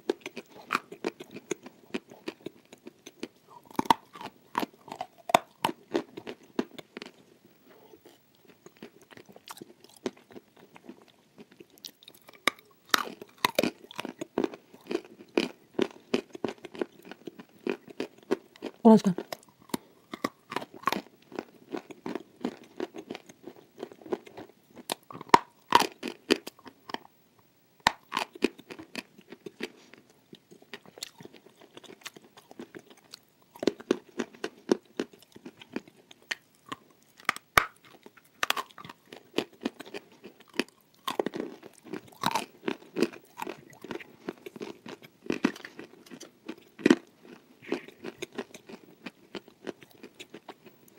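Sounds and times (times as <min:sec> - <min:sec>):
person chewing crunchy clay: 0:00.0 - 0:27.1, 0:27.8 - 0:50.9.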